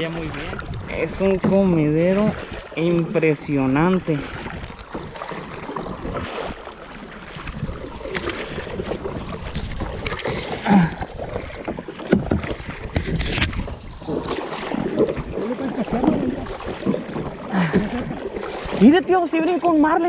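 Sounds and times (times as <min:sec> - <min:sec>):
wind on microphone: 0:00.0 - 0:19.0
kayak paddle strokes: 0:00.0 - 0:20.0
water splashing against hull: 0:00.0 - 0:20.0.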